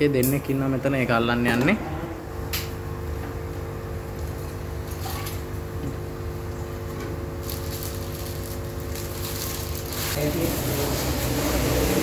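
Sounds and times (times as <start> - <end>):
aquarium equipment humming: 0.0 - 12.0.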